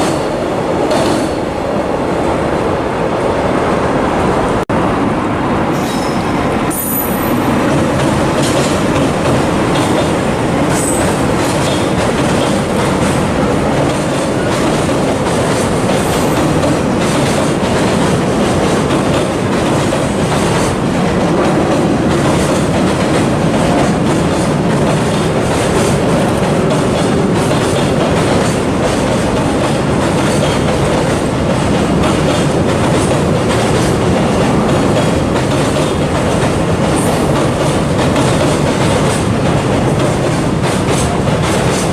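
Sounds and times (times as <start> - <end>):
train wagons rolling on rails: 0.0 - 41.9.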